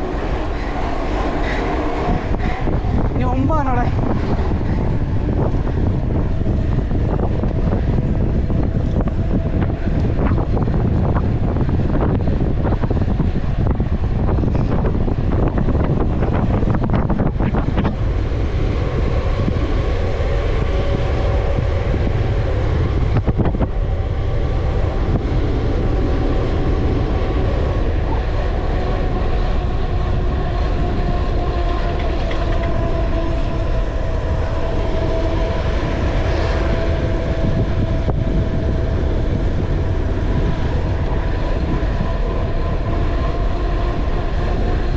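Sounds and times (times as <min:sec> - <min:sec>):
bike tyre rumble on road: 0:00.0 - 0:44.9
steady whine: 0:00.0 - 0:44.9
wind buffeting microphone: 0:00.0 - 0:44.9.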